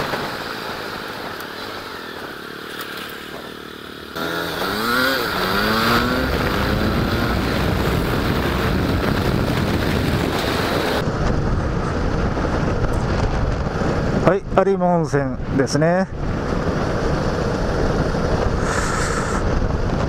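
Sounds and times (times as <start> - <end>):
motorcycle engine revving: 0.0 - 14.2, 16.2 - 20.0.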